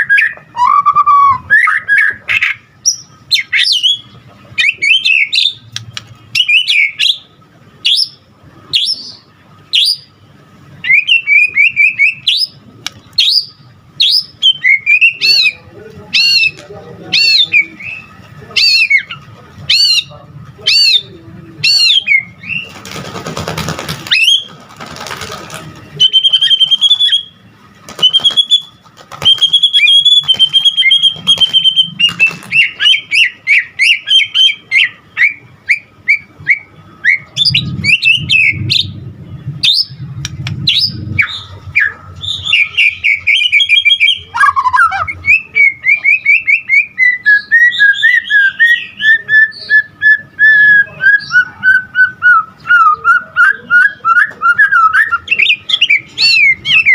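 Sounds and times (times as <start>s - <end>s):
bird singing varied whistled song: 0.0s - 5.7s, 6.3s - 7.2s, 7.8s - 10.1s, 10.8s - 12.6s, 13.2s - 20.1s, 26.0s - 27.4s, 28.0s - 39.0s, 39.6s - 56.9s.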